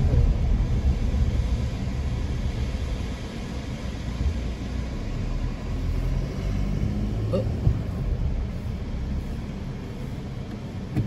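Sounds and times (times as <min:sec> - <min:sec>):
car engine and tyres rumbling: 0:00.0 - 0:11.0
road noise hiss: 0:00.0 - 0:11.0.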